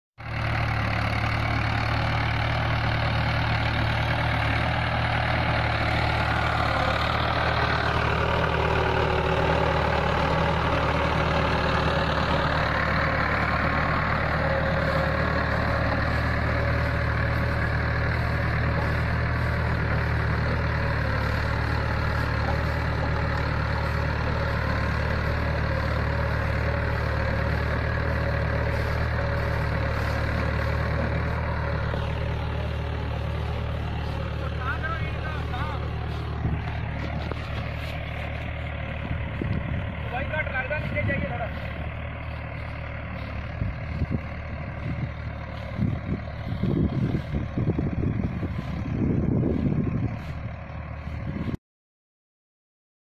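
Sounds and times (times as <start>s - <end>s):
tractor diesel engine under load: 0.2s - 51.6s.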